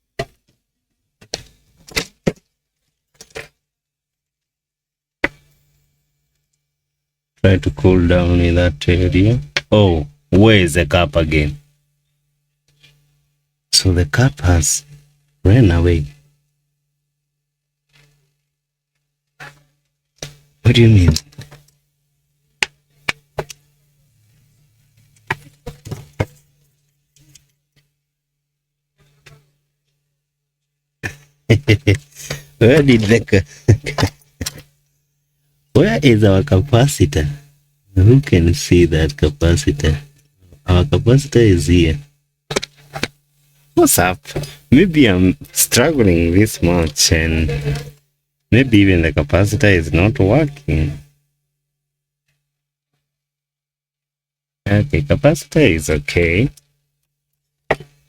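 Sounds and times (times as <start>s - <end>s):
faint low hum: 2.4s - 52.5s.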